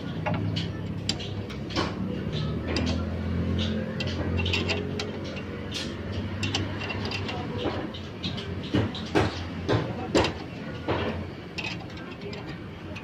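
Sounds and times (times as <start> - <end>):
wrench clinking on metal: 0.2 - 8.4, 10.2 - 13.0.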